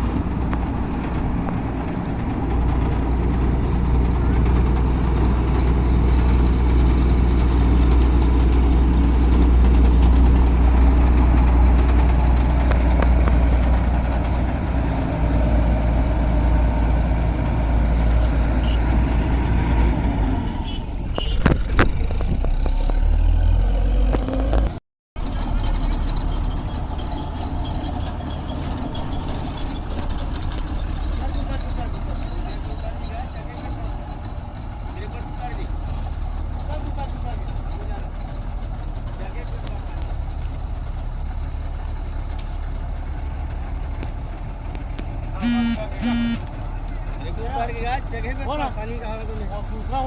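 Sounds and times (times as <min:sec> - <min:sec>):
diesel engine low rumble: 0:00.0 - 0:50.0.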